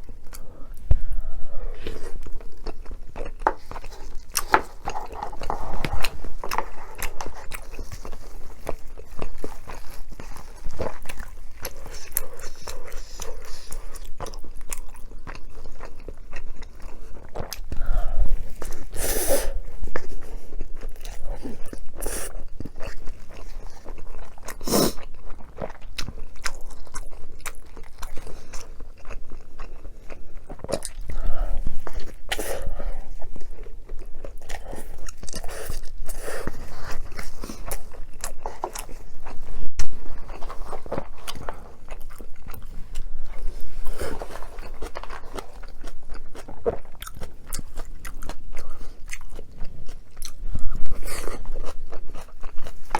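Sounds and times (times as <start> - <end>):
person chewing and biting: 1.8 - 52.9.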